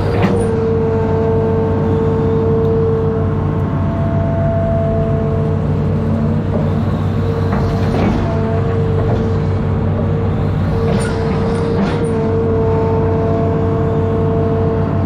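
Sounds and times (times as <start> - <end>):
diesel engine running: 0.0 - 15.0
whining tones: 0.0 - 15.0.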